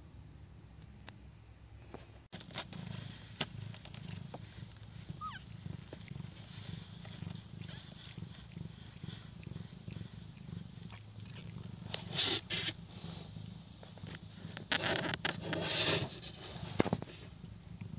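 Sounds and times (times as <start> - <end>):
rustling: 1.8 - 17.9
cat purring: 2.4 - 17.9.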